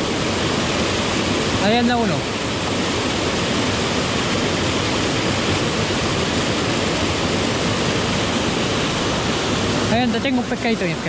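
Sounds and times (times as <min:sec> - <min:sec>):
creek water rushing over boulders: 0:00.0 - 0:11.0.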